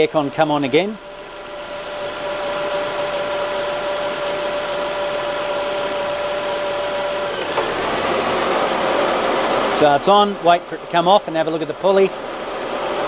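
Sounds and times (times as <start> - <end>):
air-conditioning compressor: 0.0 - 13.0
car engine idling: 0.0 - 13.0.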